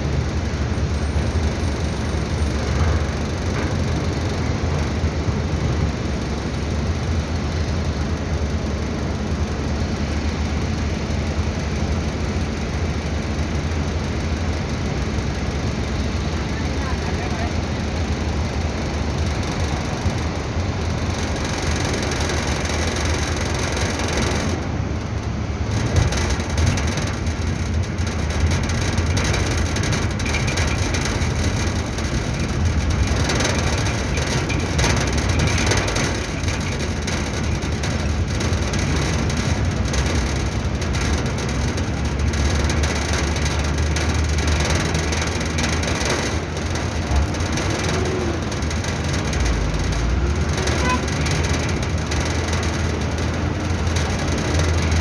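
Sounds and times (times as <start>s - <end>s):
small clicks and rattles: 0.0s - 55.0s
truck engine low drone: 0.0s - 55.0s.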